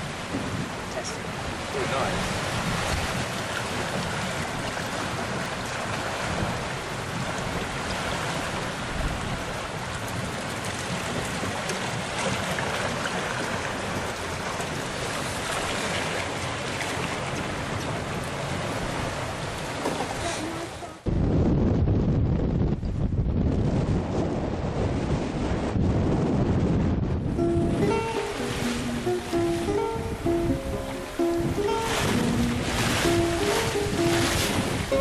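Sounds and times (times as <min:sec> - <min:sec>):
water rushing along a hull: 0:00.0 - 0:35.0
wind on microphone: 0:00.0 - 0:35.0.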